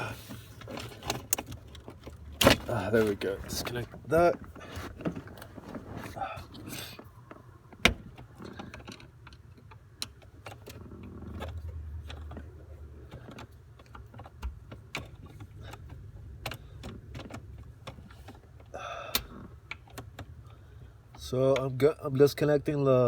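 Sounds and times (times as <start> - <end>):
hands handling connectors: 0.0 - 21.7.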